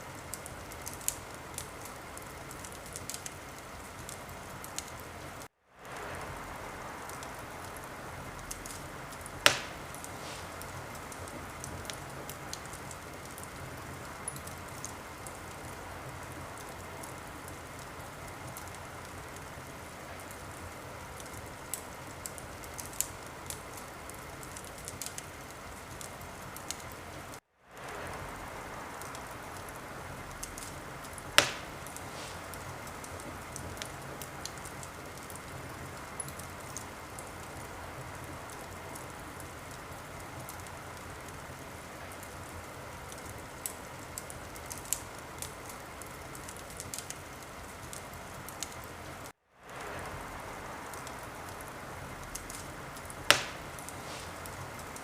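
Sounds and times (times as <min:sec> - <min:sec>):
fire popping: 0:00.0 - 0:55.0
wood fire crackling: 0:00.0 - 0:55.0.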